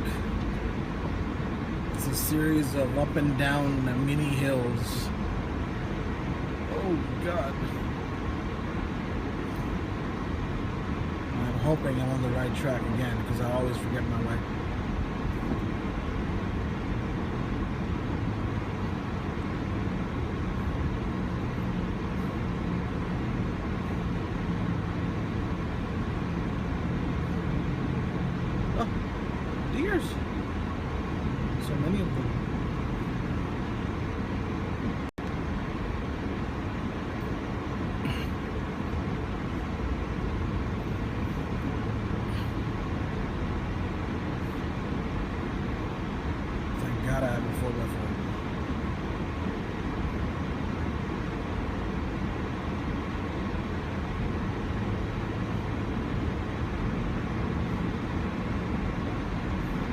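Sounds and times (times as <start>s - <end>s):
car cabin engine and tyre rumble: 0.0s - 59.9s.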